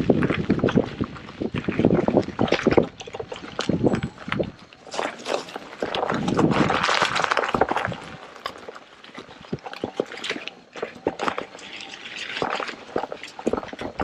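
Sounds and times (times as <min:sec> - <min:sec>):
tyre splashing through mud: 0:00.0 - 0:14.0.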